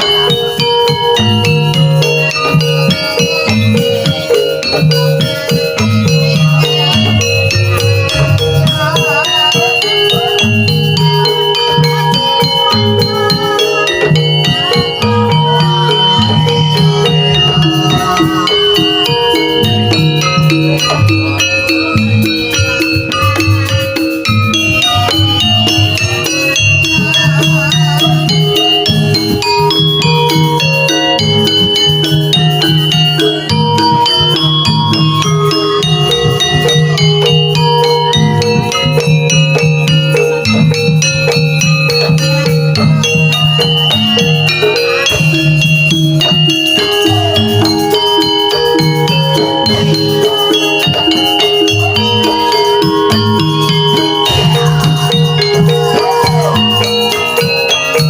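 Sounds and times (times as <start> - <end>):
dance music with fast percussion: 0.0 - 58.0
wavering melody line: 0.0 - 58.0.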